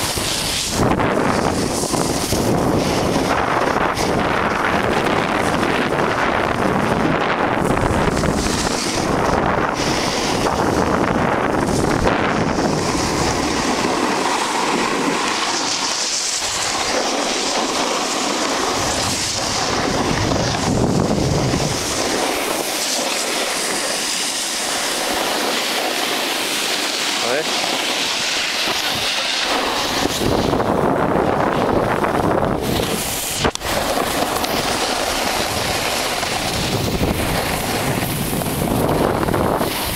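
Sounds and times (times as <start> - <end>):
skis hissing on snow: 0.0 - 39.9
wind buffeting microphone: 0.0 - 39.9.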